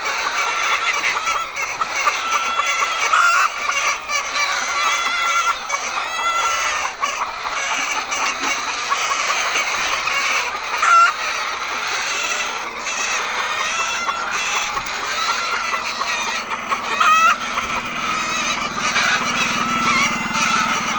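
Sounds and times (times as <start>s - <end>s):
hens clucking: 0.0s - 20.9s
hens squawking: 0.0s - 20.9s.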